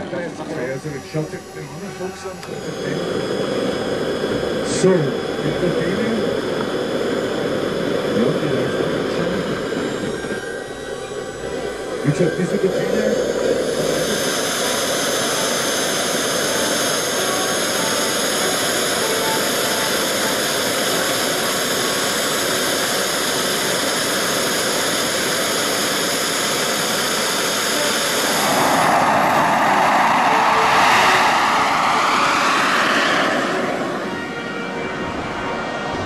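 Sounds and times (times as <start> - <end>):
model jet turbine whining: 0.0 - 36.0.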